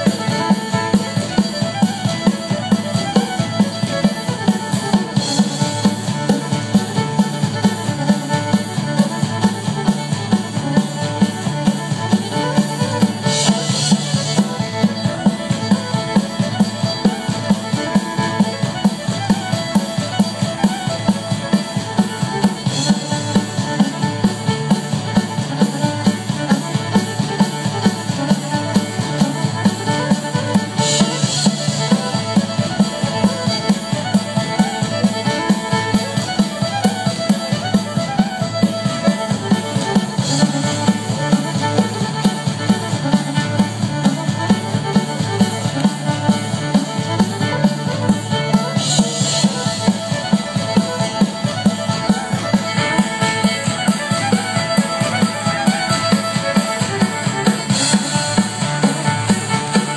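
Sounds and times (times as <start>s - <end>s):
live band playing dance tune: 0.0s - 59.9s.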